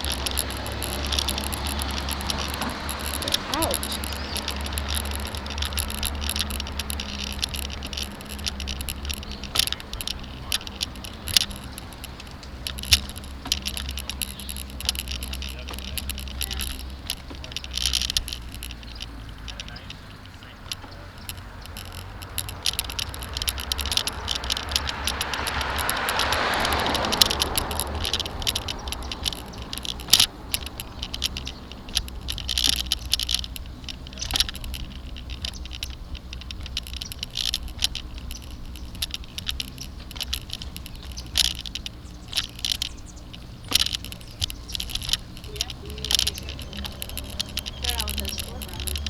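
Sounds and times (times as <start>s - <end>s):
bicycle rattling and clicking: 0.0s - 49.0s.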